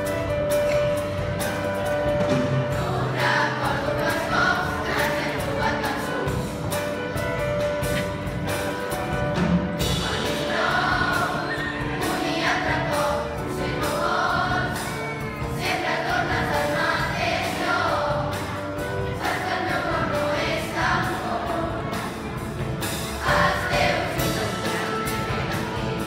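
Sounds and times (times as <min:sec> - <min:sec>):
children's choir singing: 0:00.0 - 0:26.0
grand piano: 0:00.0 - 0:26.0.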